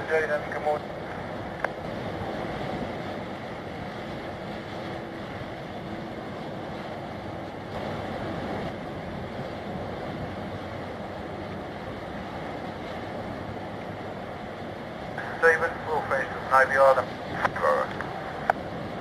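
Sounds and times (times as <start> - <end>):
choppy water: 0.0 - 19.0
wind buffeting microphone: 0.0 - 19.0.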